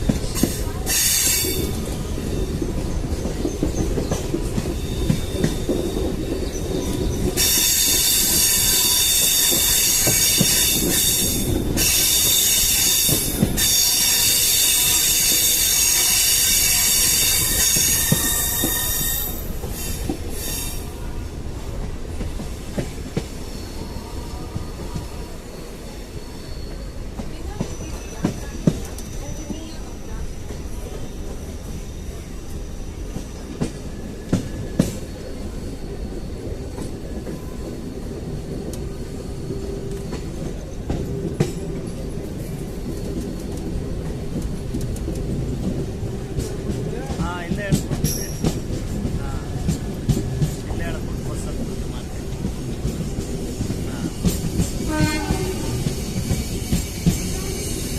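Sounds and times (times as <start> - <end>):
train wheels squealing on rails: 0.0 - 57.9
wheels rumbling on track: 0.0 - 57.9.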